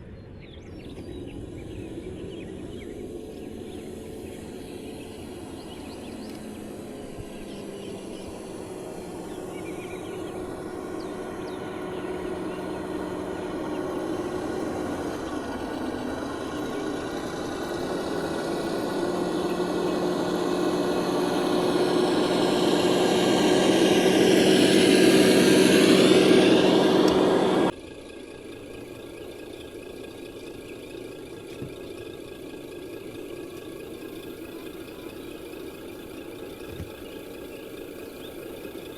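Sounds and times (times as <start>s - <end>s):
small electric motor whining: 1.2s - 38.9s.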